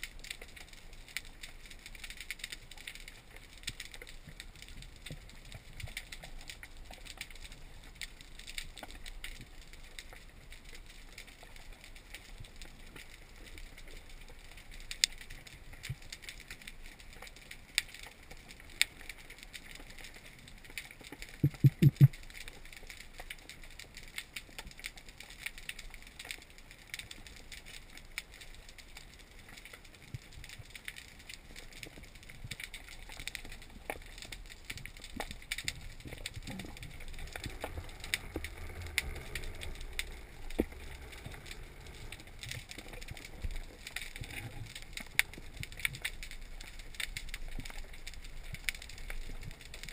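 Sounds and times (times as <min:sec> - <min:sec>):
underwater crackle of clicks: 0:00.0 - 0:49.9.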